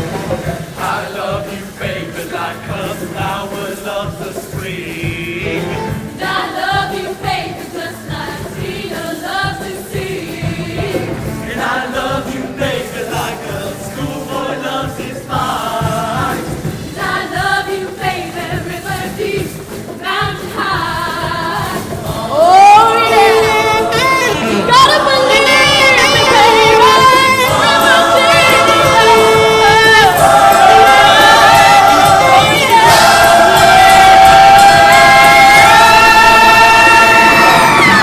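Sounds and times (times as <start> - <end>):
choir singing in harmony: 0.0 - 38.0
musical accompaniment: 0.0 - 38.0.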